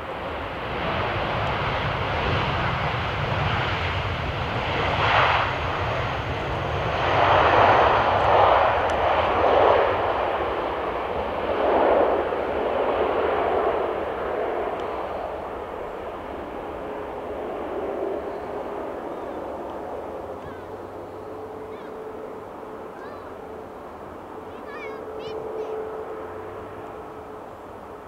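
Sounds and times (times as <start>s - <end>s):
jet engine rushing: 0.0s - 28.0s.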